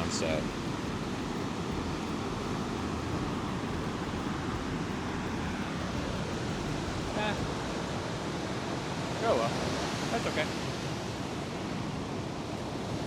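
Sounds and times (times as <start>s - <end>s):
ocean surf rushing: 0.0s - 13.0s
wind on microphone: 0.0s - 13.0s.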